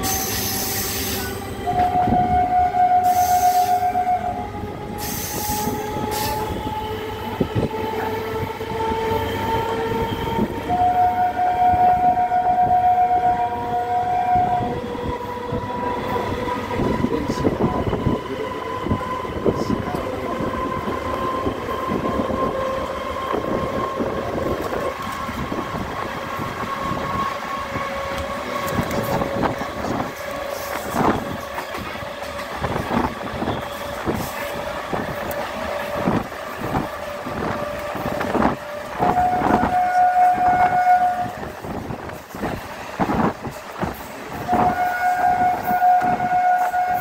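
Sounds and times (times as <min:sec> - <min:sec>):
train horn: 0:00.0 - 0:47.0
train running rumble and whine: 0:00.0 - 0:47.0.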